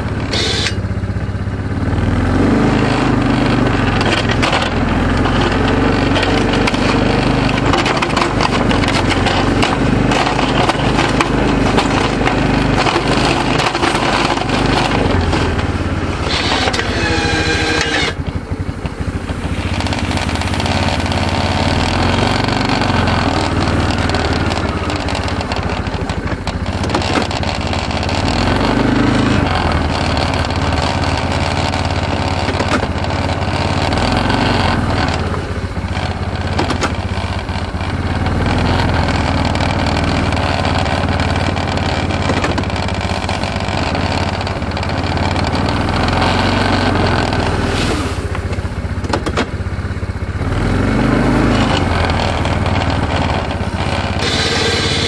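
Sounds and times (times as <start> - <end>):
plow blade pushing snow: 0.0 - 55.0
quad bike engine under load: 0.0 - 55.0.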